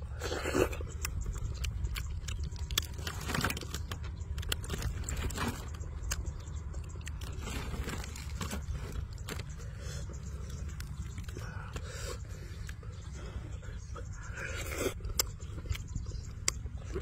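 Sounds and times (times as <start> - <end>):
chewing crispy food: 0.0 - 17.0
steady low rumble: 0.0 - 17.0.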